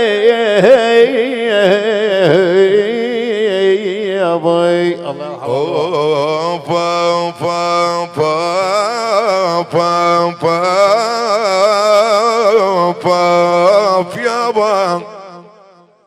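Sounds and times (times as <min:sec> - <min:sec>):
man singing melismatic vocal line: 0:00.0 - 0:15.6.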